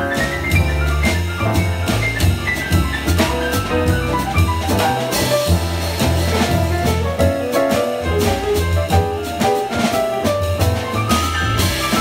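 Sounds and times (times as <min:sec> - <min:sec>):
drum kit on snare and cymbals: 0:00.0 - 0:12.0
piano melody and chords: 0:00.0 - 0:12.0
walking upright bass: 0:00.0 - 0:12.0.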